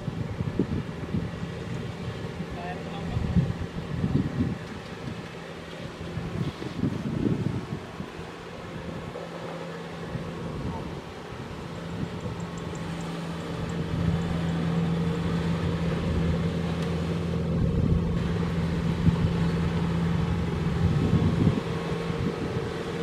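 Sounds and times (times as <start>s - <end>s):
combine harvester diesel hum: 0.0s - 23.0s.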